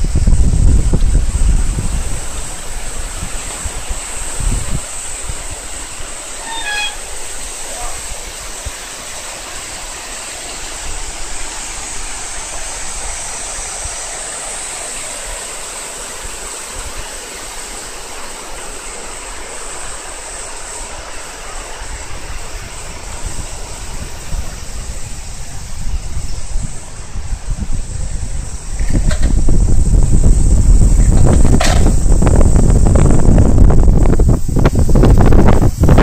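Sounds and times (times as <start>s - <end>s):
cicadas droning: 0.0s - 36.0s
even rushing noise: 0.0s - 36.0s.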